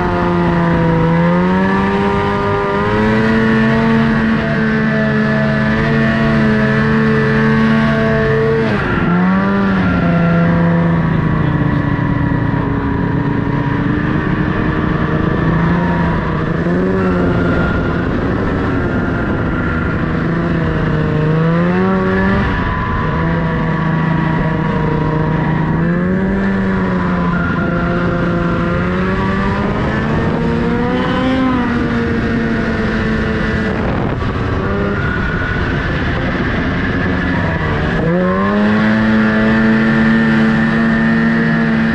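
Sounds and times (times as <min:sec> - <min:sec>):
snowmobile engine revving: 0:00.0 - 0:41.9.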